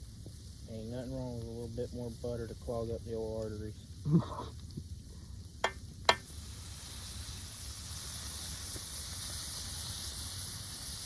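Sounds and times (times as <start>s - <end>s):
fish sizzling in butter: 0.0s - 11.0s.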